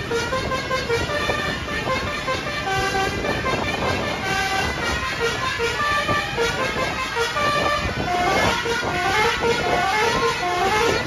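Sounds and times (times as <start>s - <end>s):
bus horn playing a tune: 0.0s - 11.0s
traffic noise: 0.0s - 11.0s.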